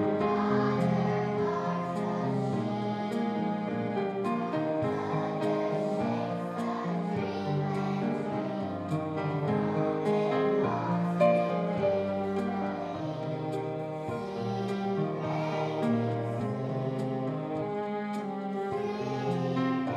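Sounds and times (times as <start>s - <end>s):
children singing: 0.0s - 19.9s
guitar accompaniment: 0.0s - 19.9s.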